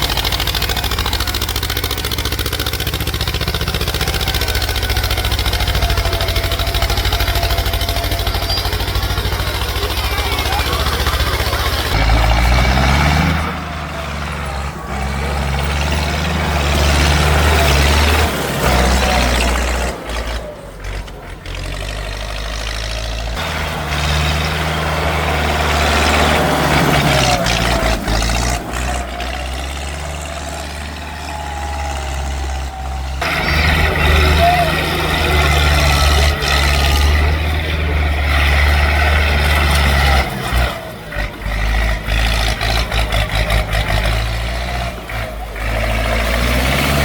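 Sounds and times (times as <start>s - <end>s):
tractor engine revving: 0.0s - 47.0s.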